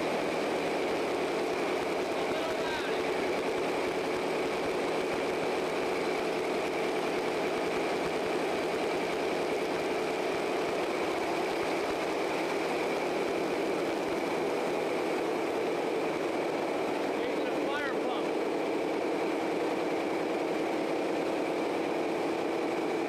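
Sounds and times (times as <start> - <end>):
diesel engine drone: 0.0 - 23.0
high-pitched engine whine: 0.0 - 23.0.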